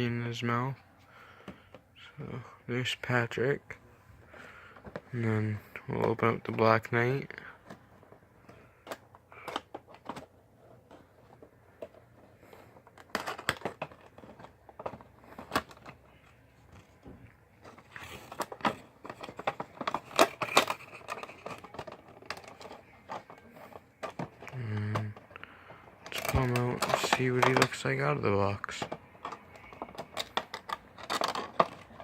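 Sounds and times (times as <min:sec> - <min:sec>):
cardboard and plastic packaging crinkling: 0:04.3 - 0:32.0.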